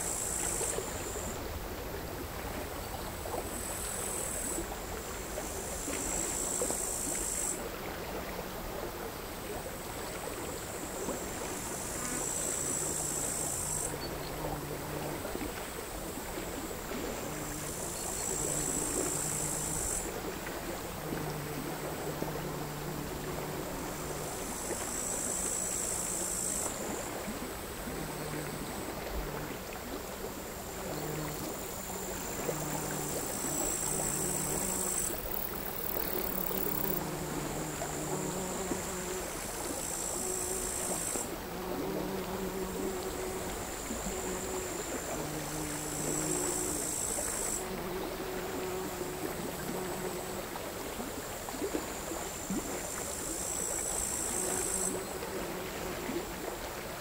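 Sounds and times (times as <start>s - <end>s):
crickets trilling: 0.0s - 1.5s, 10.1s - 29.5s, 30.5s - 56.4s
small waves lapping on shore: 0.0s - 57.0s.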